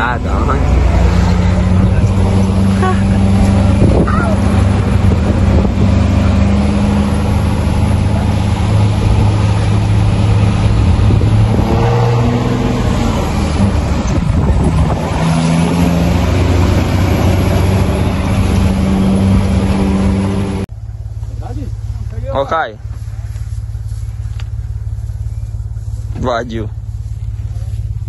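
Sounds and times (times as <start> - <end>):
truck engine hum from cab: 0.0 - 28.0.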